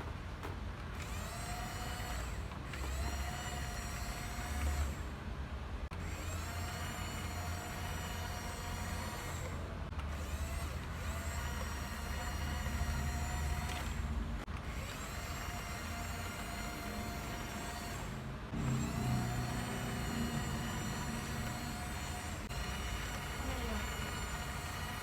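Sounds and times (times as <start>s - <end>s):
toy bulldozer motor whining: 0.9s - 5.1s, 5.9s - 25.0s.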